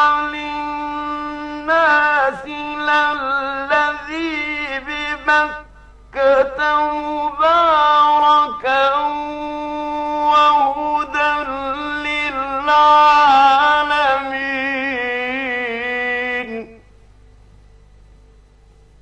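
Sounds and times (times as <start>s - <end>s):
man reciting melodically: 0.0s - 16.9s.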